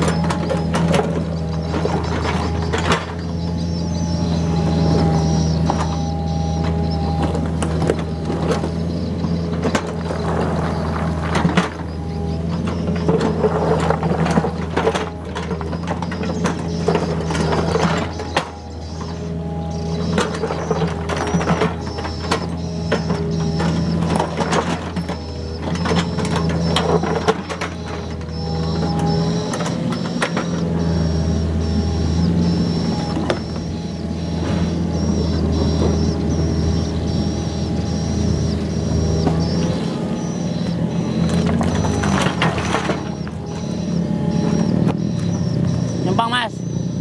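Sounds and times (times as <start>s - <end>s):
excavator diesel engine running: 0.0s - 47.0s
hydraulic whine: 0.0s - 47.0s.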